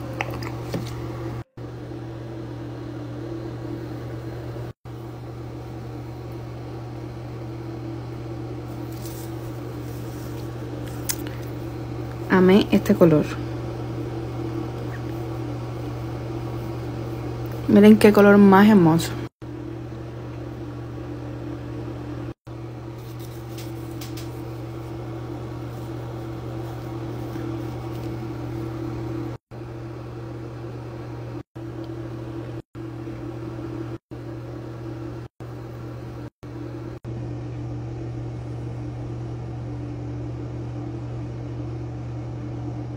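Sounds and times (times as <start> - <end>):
low mechanical hum with hiss: 0.0 - 42.9.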